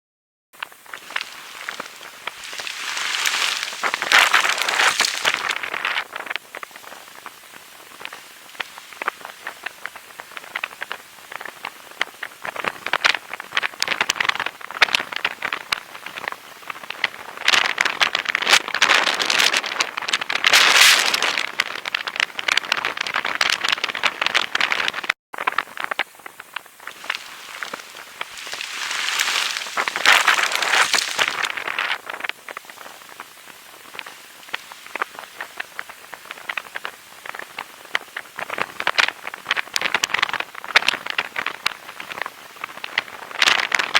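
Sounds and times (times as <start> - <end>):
rain pattering: 0.6 - 43.9.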